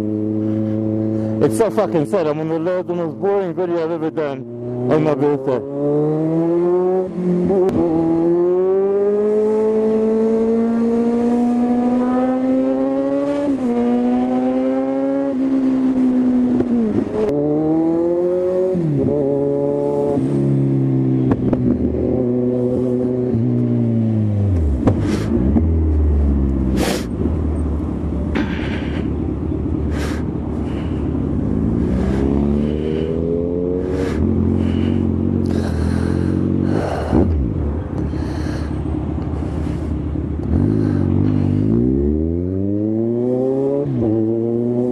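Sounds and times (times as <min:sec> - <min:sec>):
motorcycle engine shifting gears: 0:04.4 - 0:44.9.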